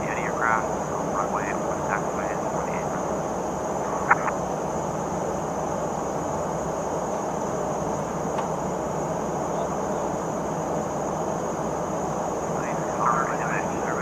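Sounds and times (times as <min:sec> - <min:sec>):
aircraft cabin engine drone: 0:00.0 - 0:14.0
faint high whine: 0:00.0 - 0:14.0.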